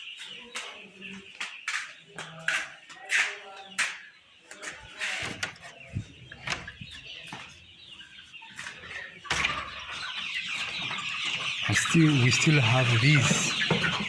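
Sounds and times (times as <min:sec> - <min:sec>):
chickens clucking and chirping: 0:00.0 - 0:14.0.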